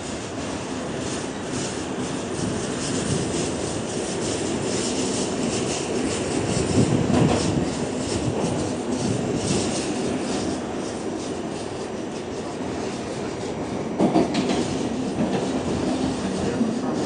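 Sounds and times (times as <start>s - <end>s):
subway car rumbling on rails: 0.0s - 17.0s.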